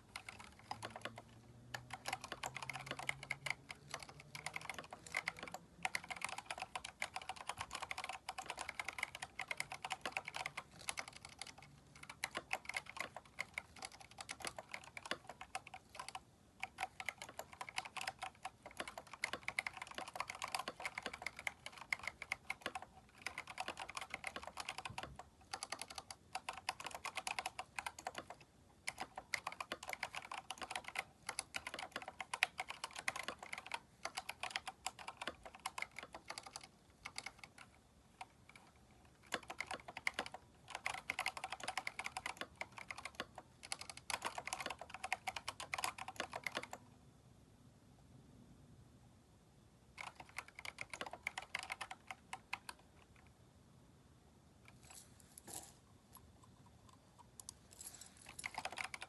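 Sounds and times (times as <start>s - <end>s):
mechanical keyboard typing: 0.0s - 46.8s, 49.9s - 53.3s, 56.9s - 59.0s.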